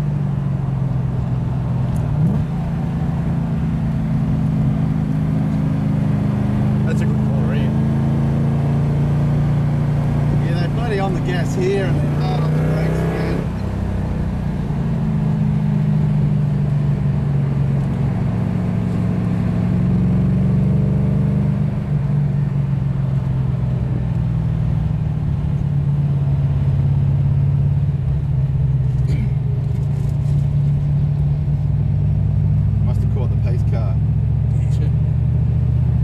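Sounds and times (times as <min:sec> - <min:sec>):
car engine cruising: 0:00.0 - 0:36.0.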